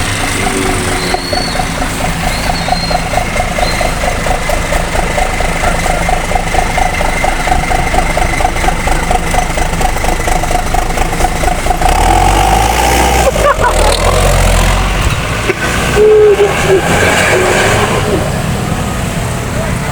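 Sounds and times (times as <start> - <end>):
engine idling through loud exhaust: 0.0 - 19.9.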